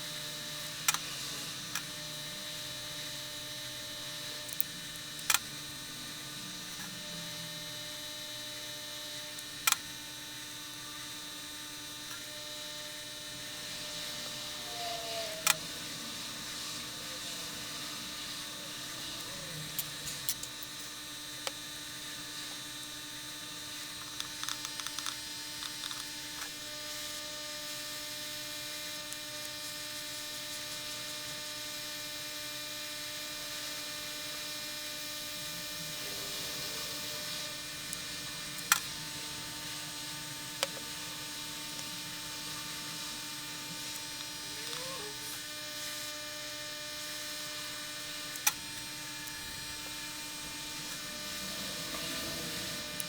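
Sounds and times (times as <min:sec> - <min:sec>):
electrical hum and hiss: 0:00.0 - 0:53.0.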